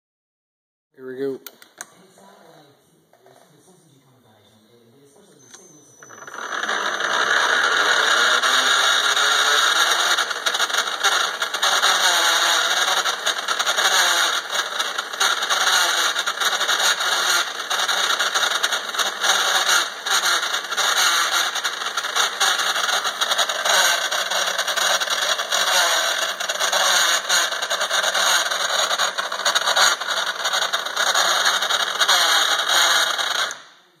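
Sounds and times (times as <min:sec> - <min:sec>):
gears whirring with clatter: 0:06.0 - 0:33.7.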